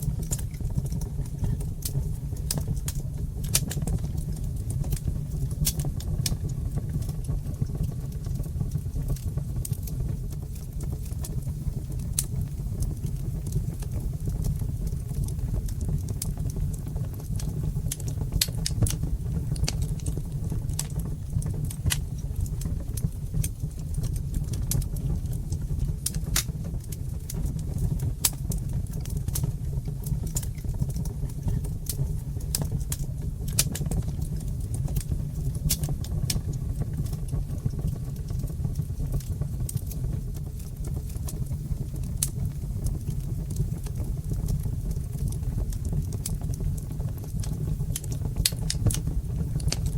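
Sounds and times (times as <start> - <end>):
low rumble of flames: 0.0 - 49.9
wood fire crackling: 0.0 - 49.9.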